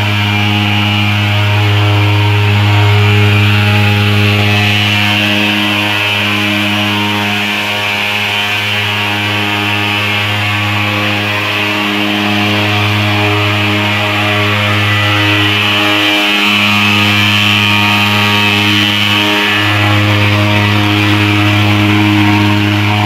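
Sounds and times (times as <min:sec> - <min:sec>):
small engine buzzing: 0:00.0 - 0:23.0.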